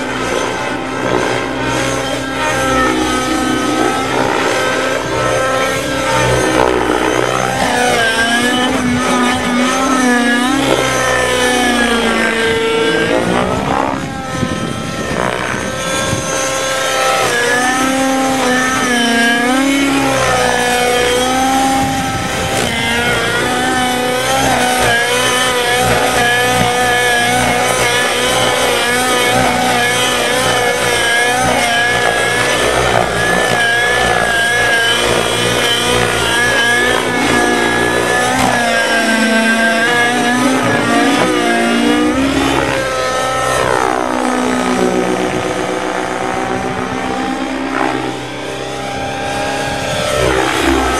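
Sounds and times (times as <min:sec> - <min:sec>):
engine running at high revs: 0:00.0 - 0:50.9.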